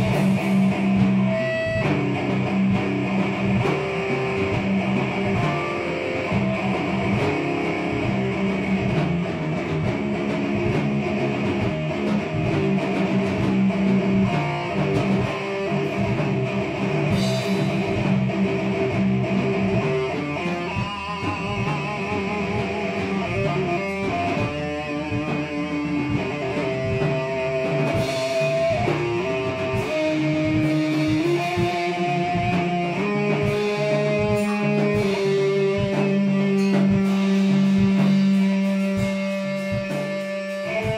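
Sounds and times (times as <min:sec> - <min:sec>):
bass guitar: 0:00.0 - 0:40.9
electric guitar: 0:00.0 - 0:40.9.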